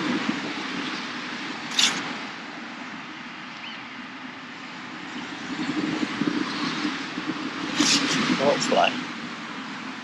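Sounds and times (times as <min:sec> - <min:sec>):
rushing outdoor background noise: 0:00.0 - 0:10.0.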